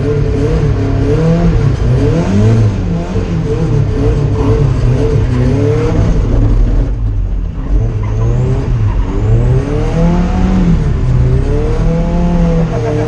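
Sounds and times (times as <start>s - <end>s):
car engine revving hard: 0.0s - 7.0s, 7.6s - 13.0s.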